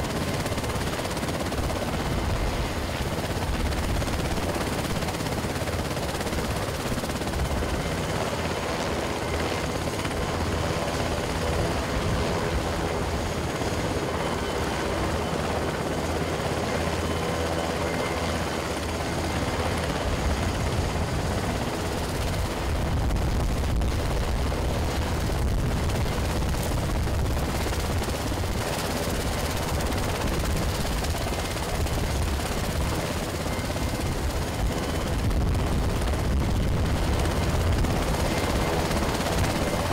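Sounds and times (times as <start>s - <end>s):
helicopter rotor blades: 0.0s - 39.9s
turbine engine noise: 0.0s - 39.9s.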